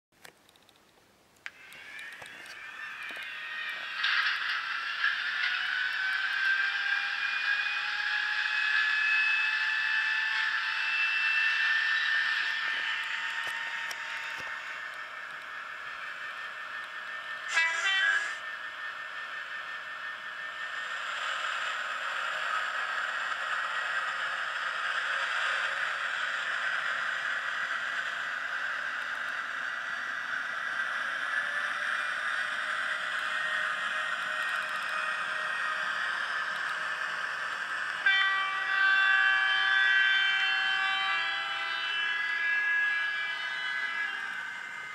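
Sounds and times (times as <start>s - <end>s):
diesel locomotive engine through tiny speaker: 1.4s - 44.9s.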